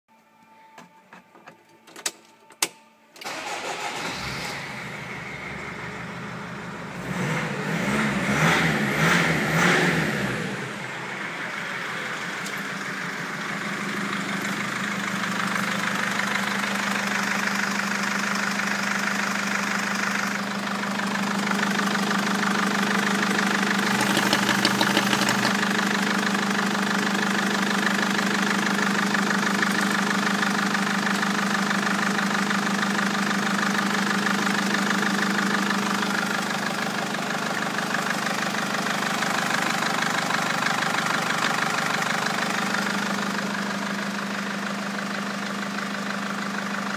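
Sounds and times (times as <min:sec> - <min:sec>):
diesel engine idling: 0:03.2 - 0:46.9.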